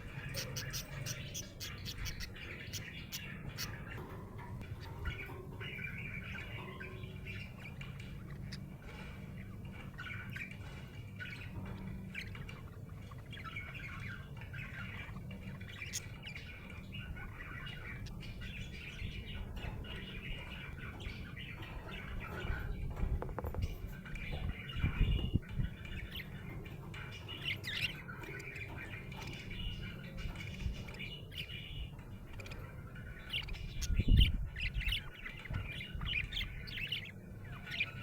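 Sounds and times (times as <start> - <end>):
budgie chirping and warbling: 0.0 - 8.8, 9.5 - 38.0
low steady hum: 0.0 - 38.0.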